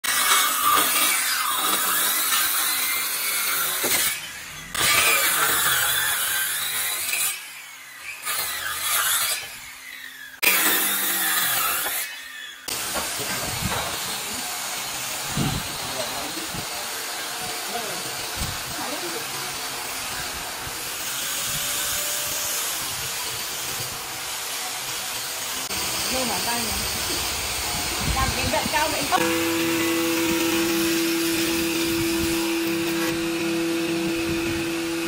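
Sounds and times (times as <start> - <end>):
circular saw cutting wood: 0.0 - 35.0.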